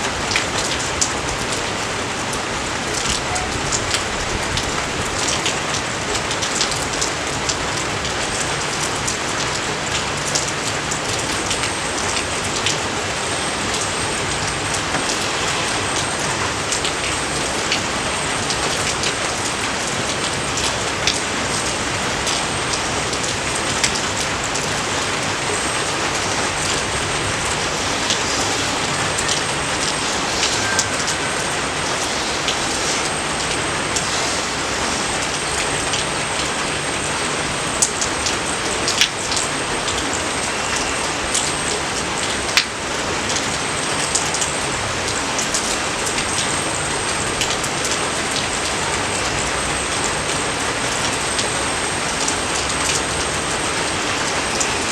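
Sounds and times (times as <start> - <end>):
rain drop splats: 0.0 - 54.9
steady rain hiss: 0.0 - 54.9.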